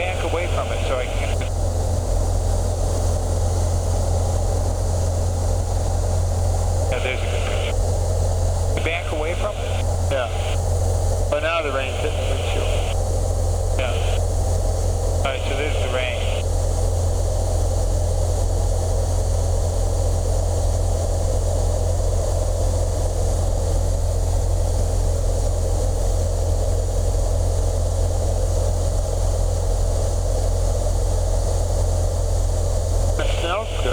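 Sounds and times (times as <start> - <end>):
light aircraft engine and propeller drone: 0.0 - 33.9.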